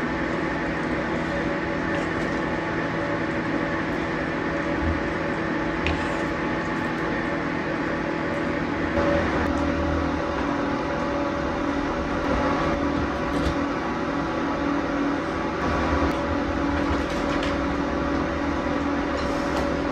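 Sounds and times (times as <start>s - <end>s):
machine hum with held tones: 0.0s - 19.9s.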